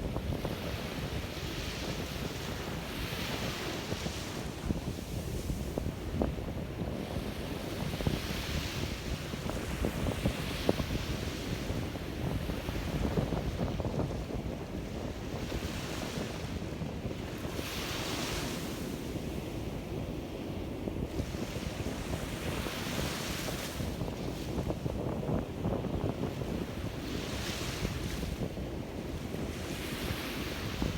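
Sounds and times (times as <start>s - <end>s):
sea waves breaking on a beach: 0.0s - 30.9s
wind rumbling on microphone: 0.0s - 30.9s.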